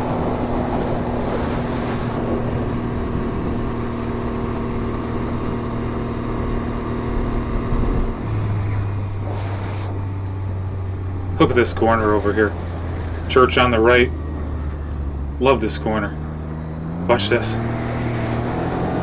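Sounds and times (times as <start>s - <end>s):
engine running at speed: 0.0s - 19.0s
road and wind noise: 0.0s - 19.0s.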